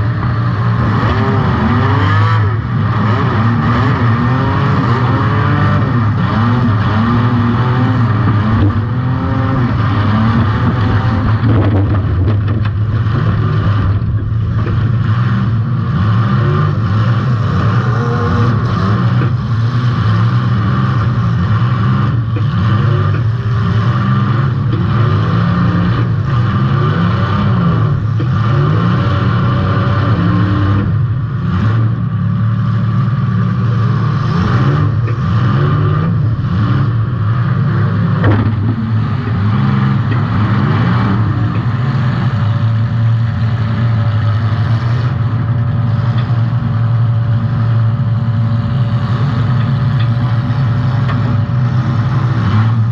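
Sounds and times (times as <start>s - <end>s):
car engine revving hard: 0.0s - 46.3s, 48.4s - 52.9s.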